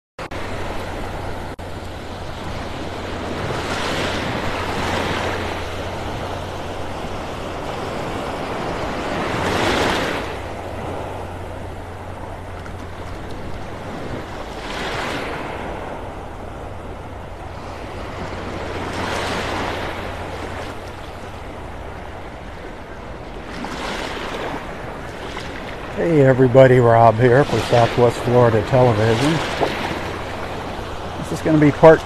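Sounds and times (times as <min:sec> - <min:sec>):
small waves breaking on sand: 0:00.3 - 0:32.0
wind rumble on microphone: 0:00.3 - 0:32.0.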